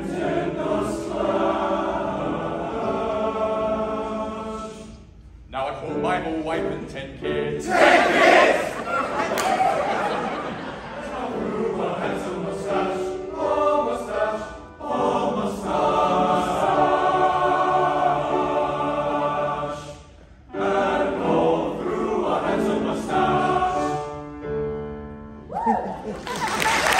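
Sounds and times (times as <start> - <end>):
choir singing in harmony: 0.0 - 5.2, 7.2 - 24.6.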